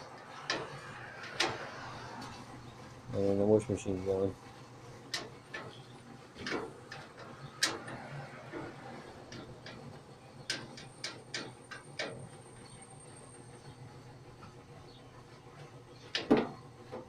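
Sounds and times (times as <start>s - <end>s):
washing machine hum: 0.0s - 17.0s.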